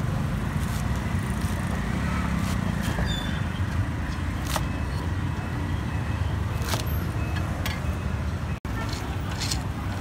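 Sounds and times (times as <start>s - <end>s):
street background rumble: 0.0s - 10.0s.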